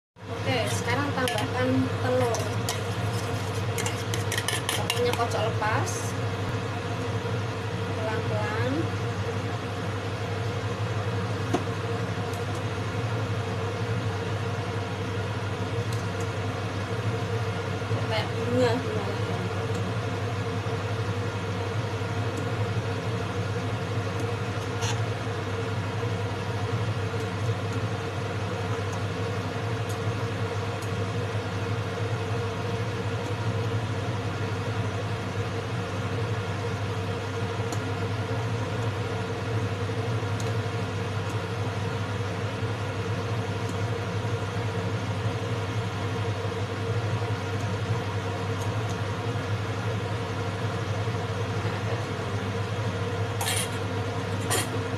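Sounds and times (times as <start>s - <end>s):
steady motor hum: 0.2s - 54.9s.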